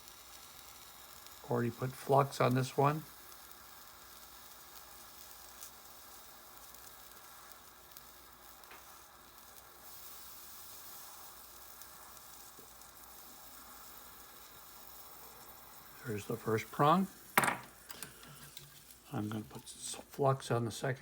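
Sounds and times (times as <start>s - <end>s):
torch flame hissing: 0.0s - 21.0s.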